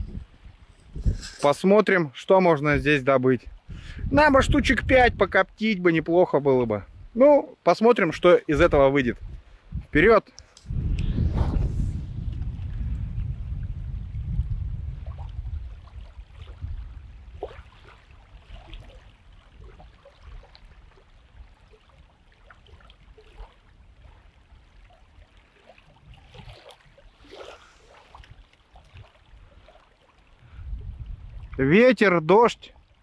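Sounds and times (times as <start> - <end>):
wind buffeting microphone: 0.0 - 1.5, 2.7 - 7.2, 8.2 - 29.8, 30.4 - 31.8
water lapping at bank: 0.0 - 33.0.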